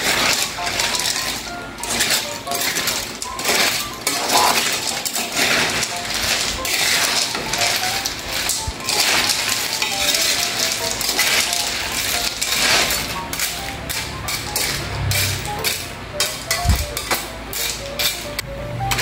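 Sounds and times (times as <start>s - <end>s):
snail shells clattering in a wok: 0.0s - 18.4s.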